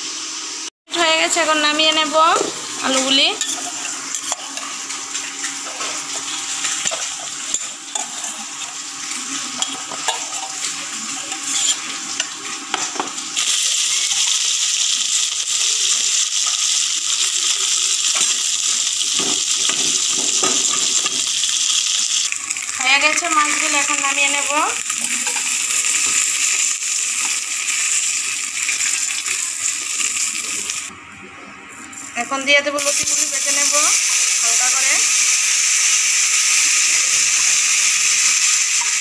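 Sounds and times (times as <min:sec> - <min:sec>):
fish frying in hot oil: 0:03.8 - 0:30.9, 0:32.8 - 0:39.0.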